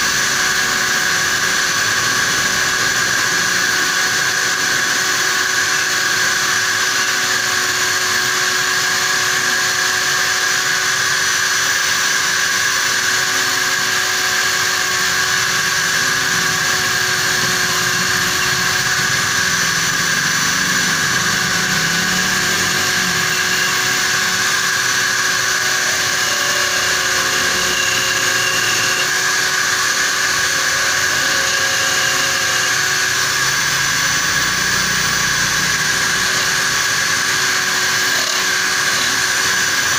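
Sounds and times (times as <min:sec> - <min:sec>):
electric drill motor whine: 0:00.0 - 0:39.9
tool scraping spinning bolt: 0:00.0 - 0:39.9.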